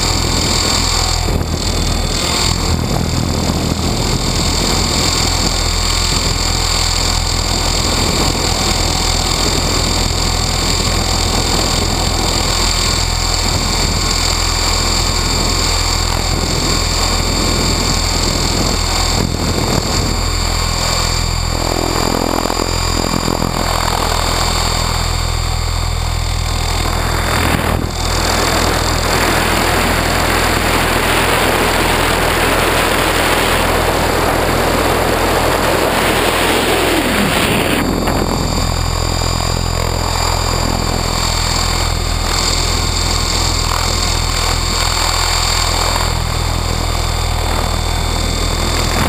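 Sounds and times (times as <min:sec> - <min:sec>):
electric motor and gears whining: 0:00.0 - 0:49.0
helicopter rotors droning: 0:00.0 - 0:49.0
wind rushing over microphone: 0:00.0 - 0:49.0.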